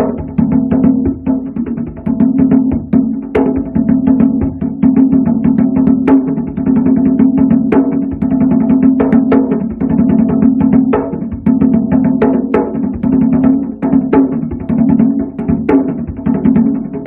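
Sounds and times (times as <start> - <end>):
hand drum rhythm: 0.0 - 17.0.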